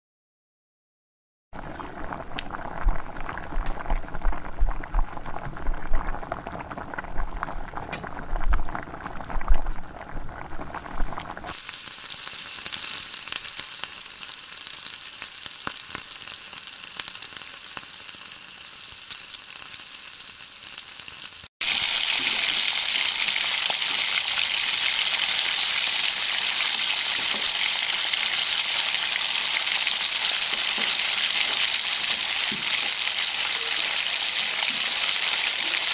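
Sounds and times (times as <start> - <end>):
food sizzling in a pan: 1.6 - 35.9.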